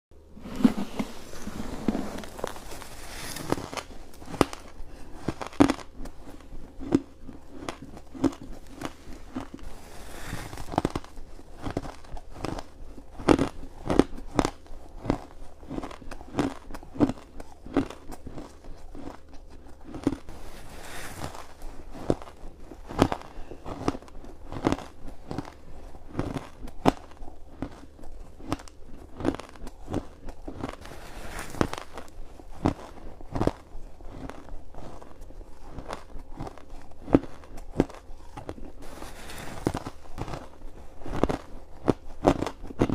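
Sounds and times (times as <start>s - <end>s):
ice being crunched and chewed: 0.5s - 42.9s.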